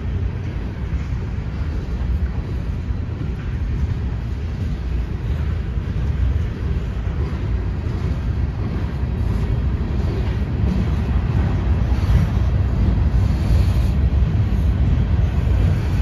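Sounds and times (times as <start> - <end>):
freight cars rumbling on rails: 0.0 - 16.0.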